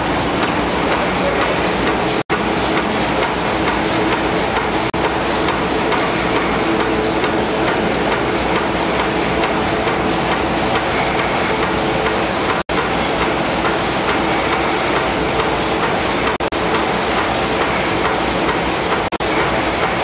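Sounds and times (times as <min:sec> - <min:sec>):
printing machine clattering: 0:00.0 - 0:20.0.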